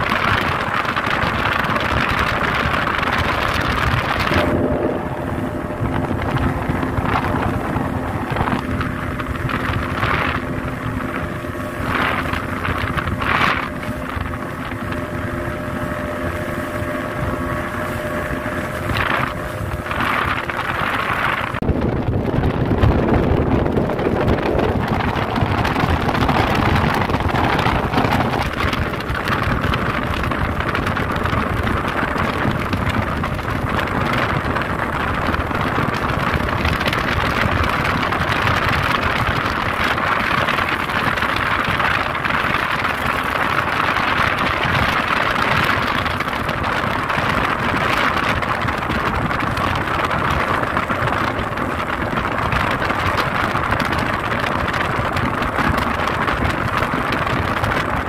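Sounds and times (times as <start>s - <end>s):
outboard engine running: 0.0s - 58.0s
water rushing against hull: 0.0s - 58.0s
wind: 0.0s - 58.0s.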